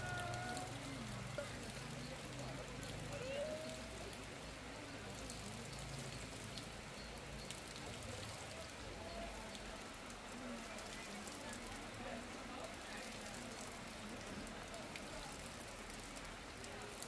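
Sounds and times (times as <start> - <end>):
faint distant voices: 0.0 - 17.0.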